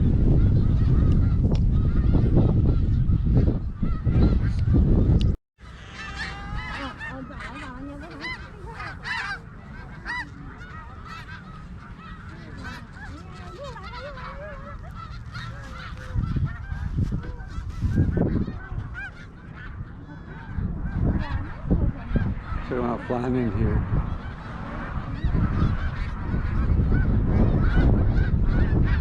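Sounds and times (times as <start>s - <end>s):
wind buffeting microphone: 0.0s - 5.4s, 6.1s - 29.0s
snow geese honking: 5.6s - 29.0s.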